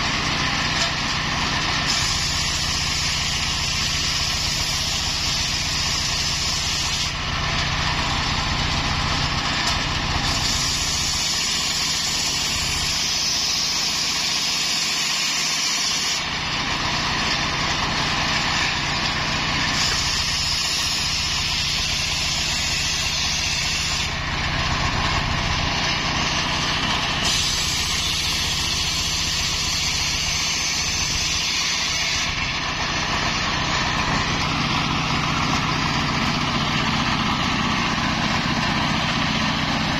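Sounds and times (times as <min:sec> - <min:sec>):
circular saw cutting wood: 0:00.0 - 0:39.9
engine running: 0:00.0 - 0:39.9.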